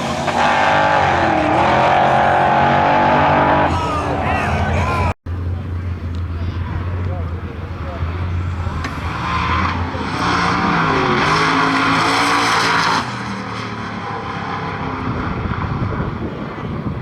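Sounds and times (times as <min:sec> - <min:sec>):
racing engine at full throttle: 0:00.0 - 0:17.0.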